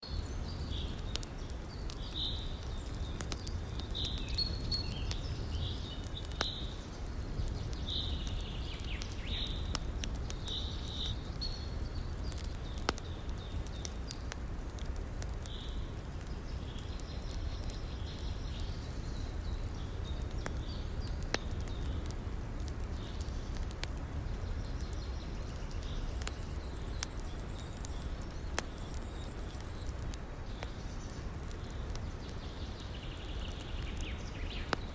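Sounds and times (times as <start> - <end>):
birds chirping: 0.0 - 22.1, 22.7 - 34.9
campfire crackling: 0.0 - 34.9.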